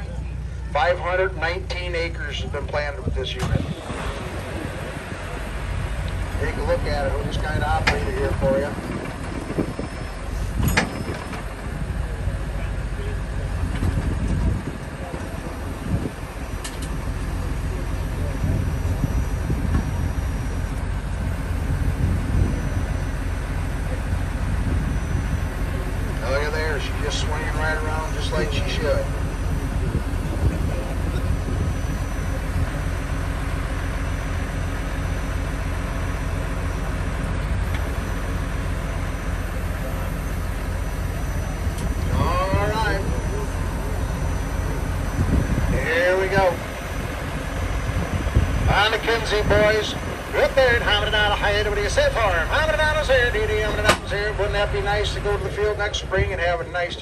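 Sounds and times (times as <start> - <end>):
tractor engine rumbling: 0.0 - 57.0
hydraulic planter operating: 3.3 - 56.4.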